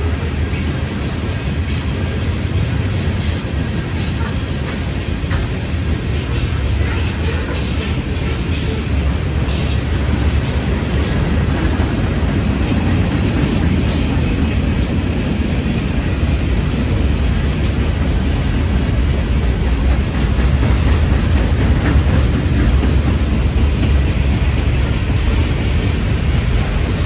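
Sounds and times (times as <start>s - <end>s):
freight train rolling past: 0.0s - 27.0s.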